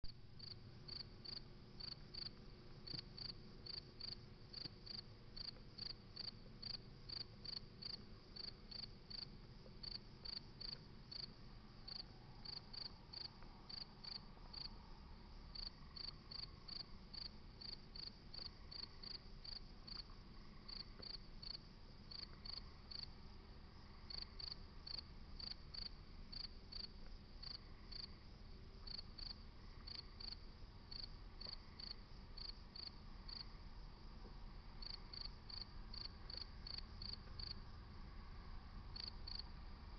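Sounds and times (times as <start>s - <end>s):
faint low rumble: 0.0s - 39.9s
crickets chirping: 0.1s - 39.9s.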